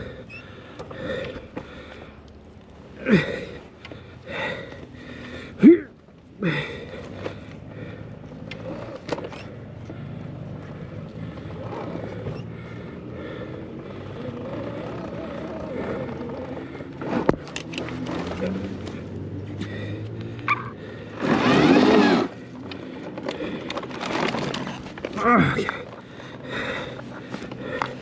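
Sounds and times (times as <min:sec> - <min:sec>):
electric dirt bike running: 0:00.0 - 0:28.0
rider grunting: 0:00.0 - 0:28.0.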